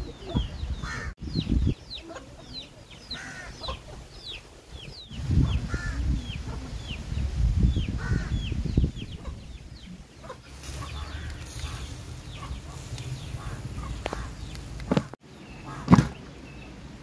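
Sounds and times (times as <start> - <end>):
chickens peeping: 0.0 - 16.8.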